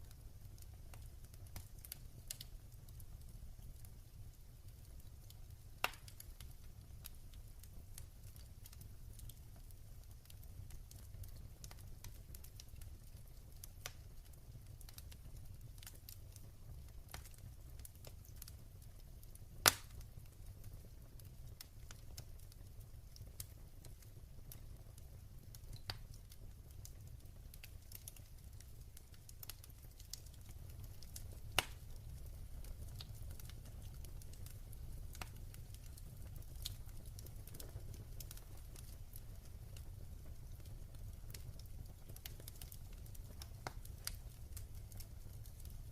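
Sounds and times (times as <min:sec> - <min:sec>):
fire crackling and popping: 0:00.0 - 0:45.9
fire rumbling: 0:00.0 - 0:45.9.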